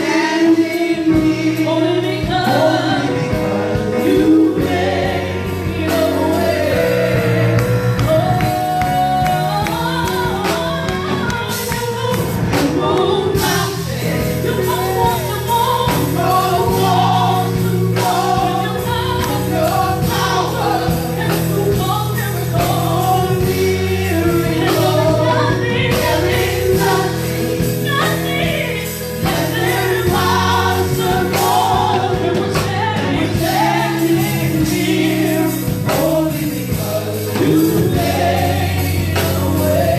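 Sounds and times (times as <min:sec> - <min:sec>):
bass: 0:00.0 - 0:39.9
choir singing: 0:00.0 - 0:39.9
keyboard chords: 0:00.0 - 0:39.9.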